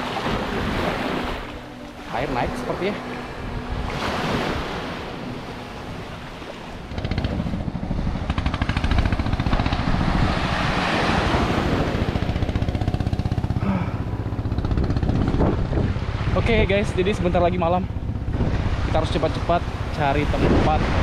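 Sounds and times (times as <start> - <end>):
boat engine pulsing: 0.0 - 21.0
surf: 0.0 - 21.0
wind: 0.0 - 21.0.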